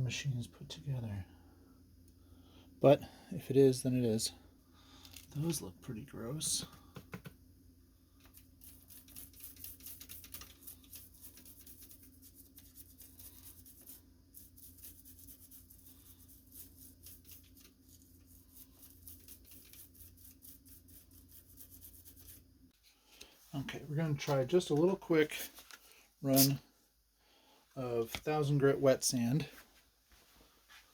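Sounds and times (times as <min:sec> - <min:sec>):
steady low hum: 0:00.0 - 0:30.7.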